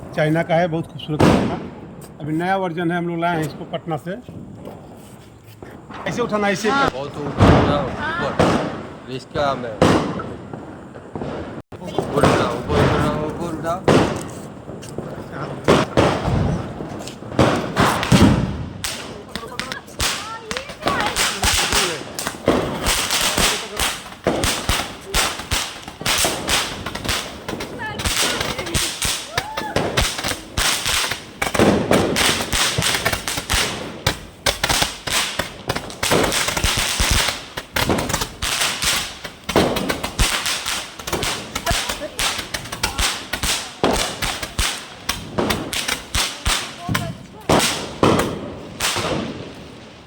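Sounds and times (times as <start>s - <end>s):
firework rapid pops and bangs: 1.2s - 2.5s, 3.2s - 50.0s.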